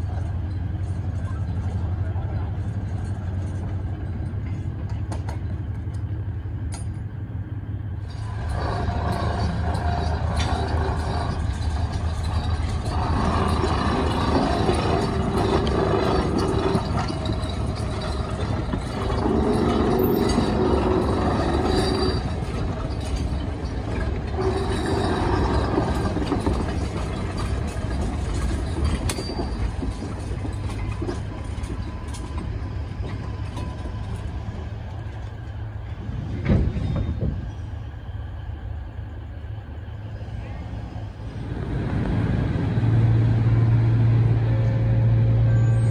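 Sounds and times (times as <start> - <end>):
diesel locomotive engine hum: 0.0 - 45.9
train wheels rolling on rails: 0.0 - 45.9.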